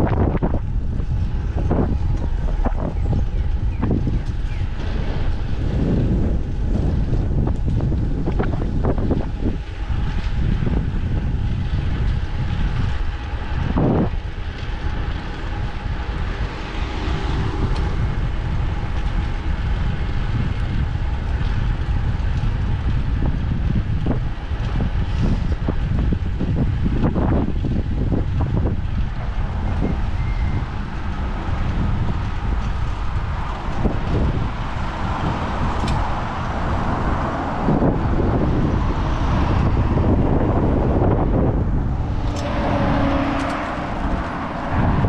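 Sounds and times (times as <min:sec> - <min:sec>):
wind on microphone: 0:00.0 - 0:45.0.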